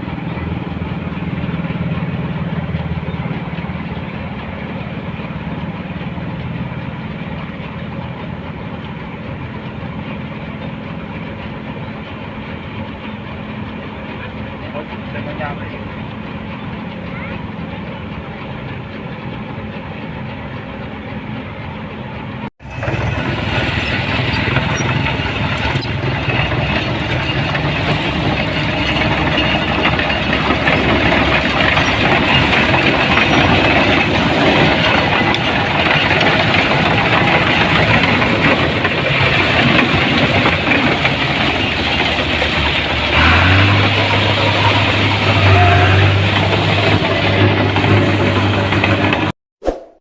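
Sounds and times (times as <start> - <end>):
combine harvester engine: 0.0 - 49.3.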